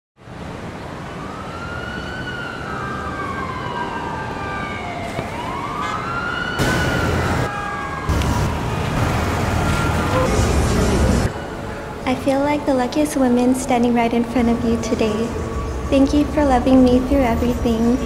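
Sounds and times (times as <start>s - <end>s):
city traffic rumble: 0.2s - 18.0s
emergency siren wailing: 0.6s - 12.1s, 14.3s - 18.0s.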